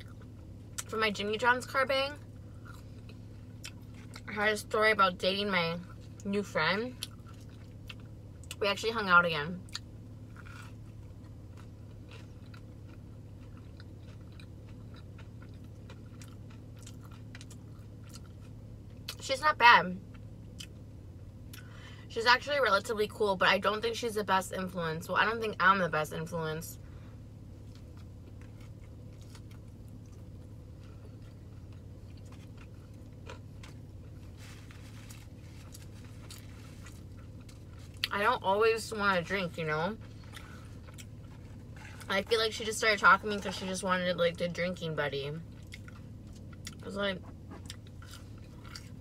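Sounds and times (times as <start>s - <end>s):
chewing with wet clicks and crunches: 0.0s - 8.8s, 9.6s - 19.3s, 20.0s - 21.8s, 27.6s - 43.7s, 44.8s - 49.0s
low hum: 0.0s - 49.0s.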